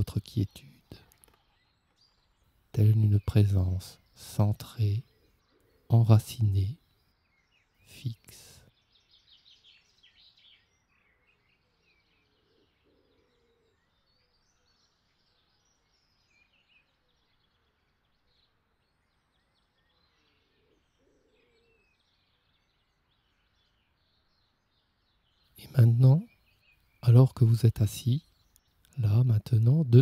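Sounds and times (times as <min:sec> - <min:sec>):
faint birds chirping: 0:00.0 - 0:30.0
lower bird call: 0:02.8 - 0:30.0.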